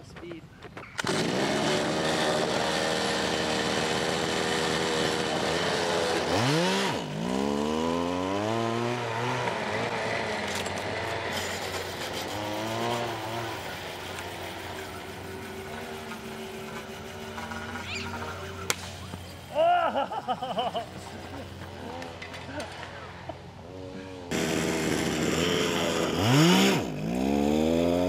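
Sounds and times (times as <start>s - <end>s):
go-kart engine running hard: 0.9s - 28.0s.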